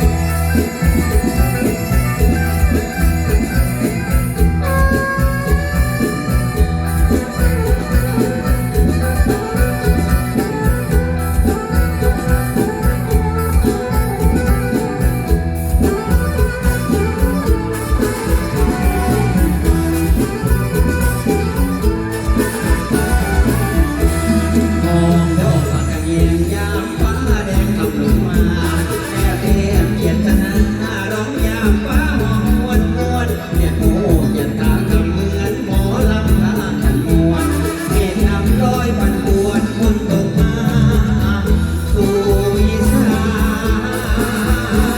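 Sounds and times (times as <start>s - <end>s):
heavy bass drum beat: 0.0s - 44.9s
live band music over pa: 0.0s - 44.9s.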